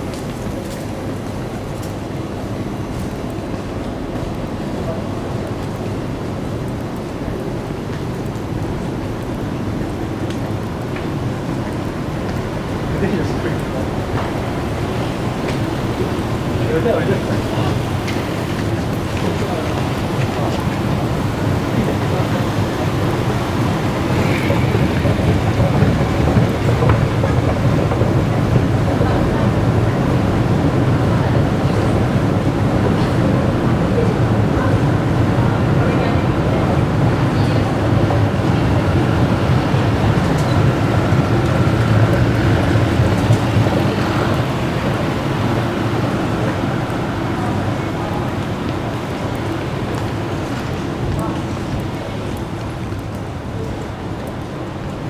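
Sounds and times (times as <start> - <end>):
metro station low rumble: 0.0 - 55.0
trains running: 0.0 - 55.0.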